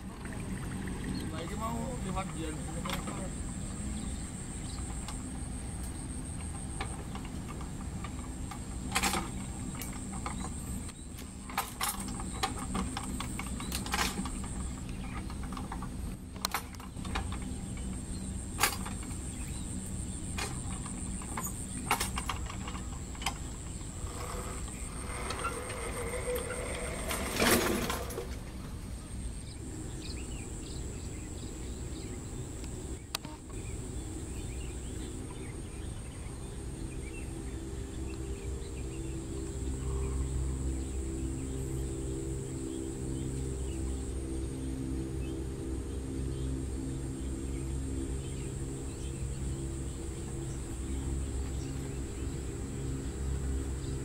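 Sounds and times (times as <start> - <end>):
high insect chirring: 0.5 - 54.0.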